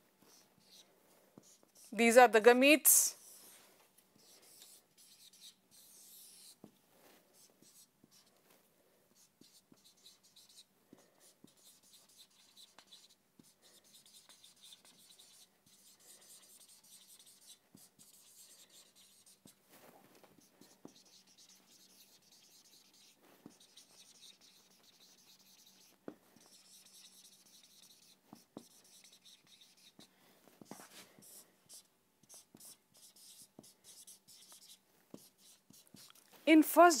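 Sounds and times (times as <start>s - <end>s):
marker squeaking on whiteboard: 0.3s - 1.9s, 4.2s - 6.7s, 7.4s - 8.4s, 9.2s - 19.6s, 20.3s - 36.2s.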